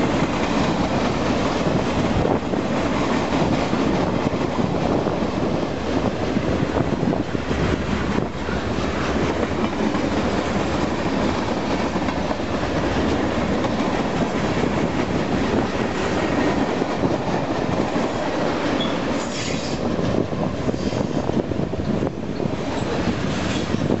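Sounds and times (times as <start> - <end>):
wheels clicking over rail joints: 0.0 - 20.6
train wheels rumbling on rail: 0.0 - 24.0.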